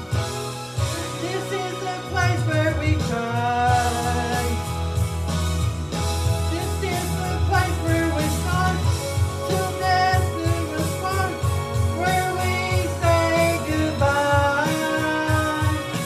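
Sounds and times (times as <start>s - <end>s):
instrumental accompaniment with bass: 0.0s - 16.0s.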